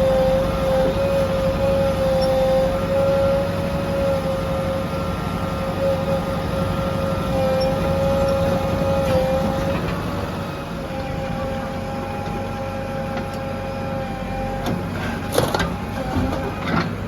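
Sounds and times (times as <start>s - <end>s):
diesel engine whining under load: 0.0s - 17.0s.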